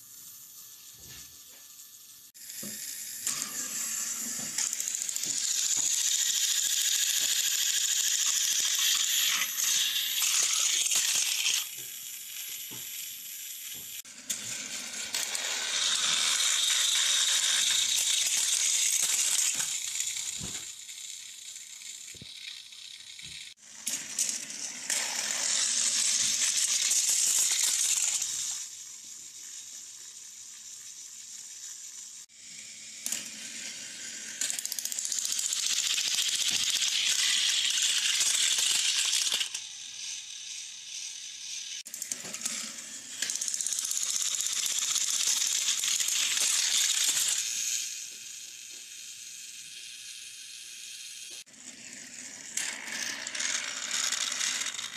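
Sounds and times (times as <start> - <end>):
toy trains rattling on track: 0.0 - 54.9.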